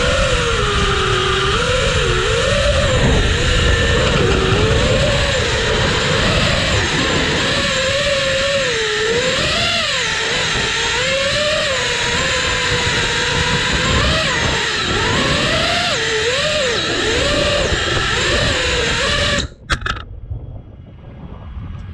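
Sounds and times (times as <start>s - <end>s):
drone motors and propellers whining: 0.0s - 21.9s
wind rushing past microphone: 0.0s - 21.9s.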